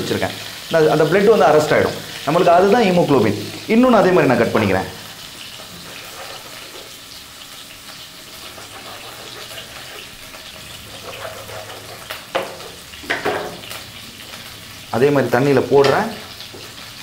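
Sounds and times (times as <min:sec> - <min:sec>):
frying sizzle: 0:00.0 - 0:17.0.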